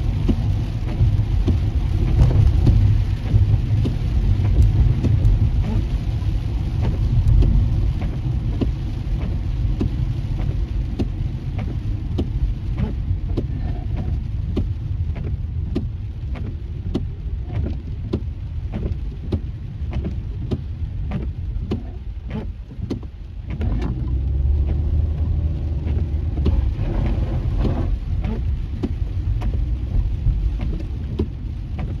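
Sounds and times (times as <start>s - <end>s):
low road rumble: 0.0s - 32.0s
raindrops tapping on car: 0.0s - 32.0s.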